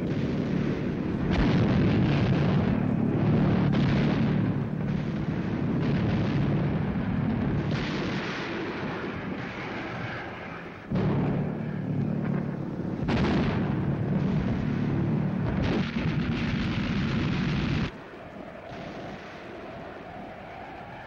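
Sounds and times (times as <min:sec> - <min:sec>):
sharp gunshot reports: 0:00.0 - 0:17.9
anti-aircraft gunfire: 0:00.0 - 0:21.0.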